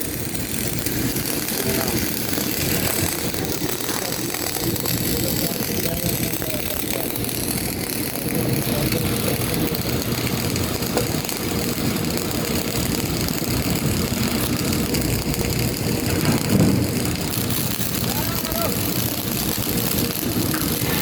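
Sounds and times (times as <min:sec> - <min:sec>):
workshop machinery humming: 0:00.0 - 0:21.0.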